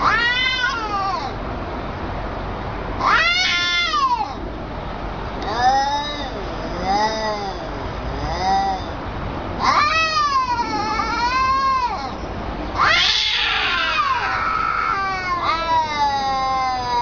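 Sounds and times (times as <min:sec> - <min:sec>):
cats yowling: 0:00.0 - 0:01.4, 0:03.0 - 0:04.4, 0:05.4 - 0:09.0, 0:09.6 - 0:17.0.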